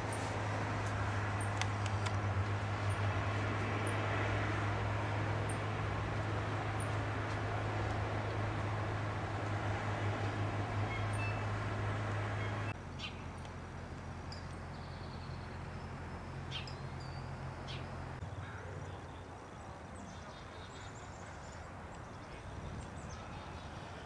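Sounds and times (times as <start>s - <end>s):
vehicle engine humming: 0.0s - 19.5s.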